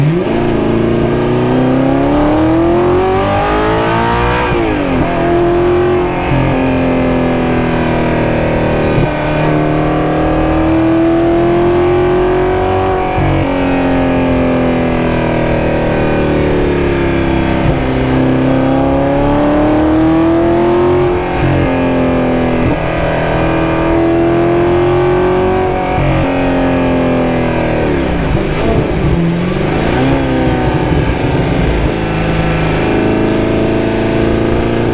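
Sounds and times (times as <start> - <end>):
sports car engine accelerating: 0.0 - 34.9.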